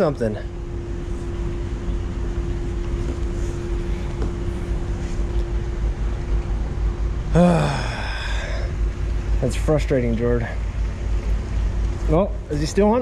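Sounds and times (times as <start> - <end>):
steady mid-pitched hum: 0.0 - 13.0.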